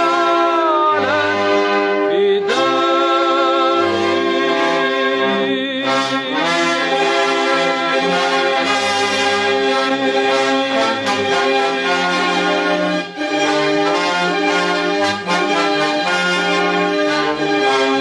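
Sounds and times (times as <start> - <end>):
orchestra with brass chords: 0.0 - 18.0.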